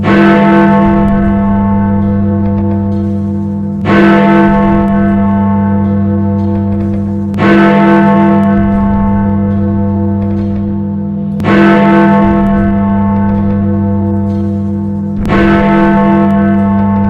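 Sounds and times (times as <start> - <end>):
large bell striking: 0.0 - 17.0.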